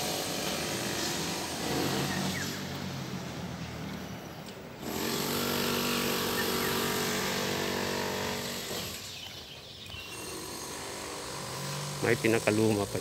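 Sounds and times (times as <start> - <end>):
small petrol engine running: 0.0 - 2.7, 4.8 - 13.0.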